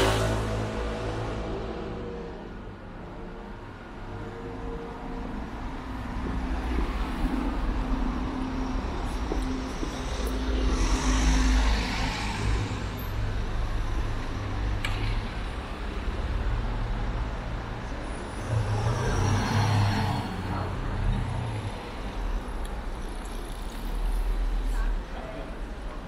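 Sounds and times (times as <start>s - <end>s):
passing vehicles: 0.0s - 26.0s.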